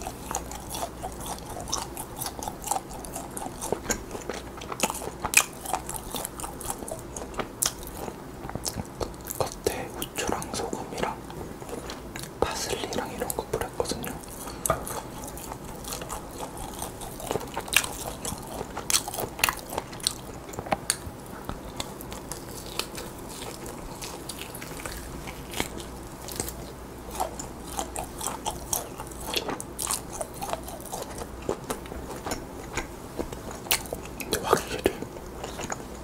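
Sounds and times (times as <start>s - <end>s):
biting and chewing meat: 0.0s - 36.0s.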